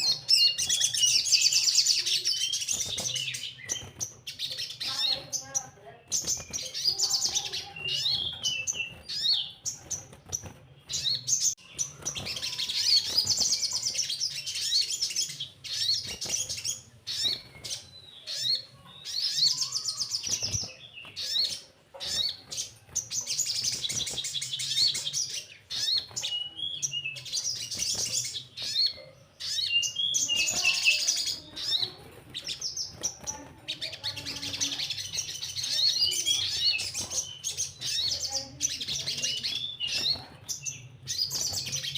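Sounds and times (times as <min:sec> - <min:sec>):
sunbird twittering trills: 0:00.0 - 0:41.9.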